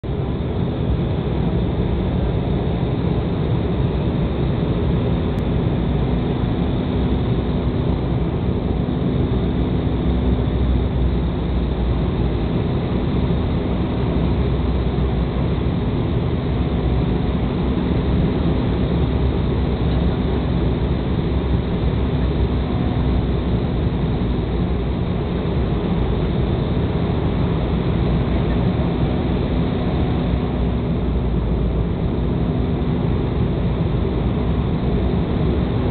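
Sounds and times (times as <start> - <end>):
jet engine rumble: 0.0 - 35.9
steady hum: 0.0 - 35.9.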